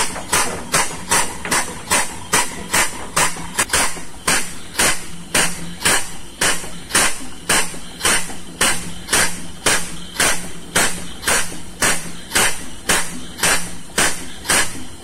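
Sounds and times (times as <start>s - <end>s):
diaphragm pump air puffs: 0.0s - 15.0s.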